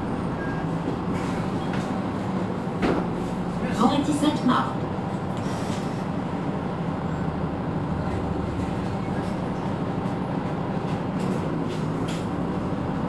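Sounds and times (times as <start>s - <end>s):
bus engine hum: 0.0s - 13.0s
rolling road noise: 0.0s - 13.0s.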